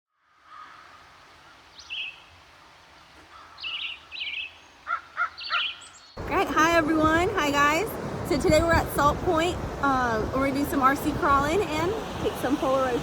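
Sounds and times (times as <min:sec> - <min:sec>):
faint steady hiss: 0:00.2 - 0:13.0
birds chirping: 0:00.5 - 0:13.0.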